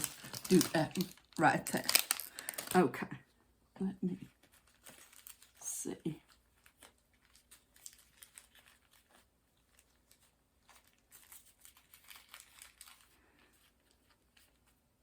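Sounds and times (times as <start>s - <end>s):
plastic and paper rustling: 0.0s - 3.0s, 4.2s - 15.0s.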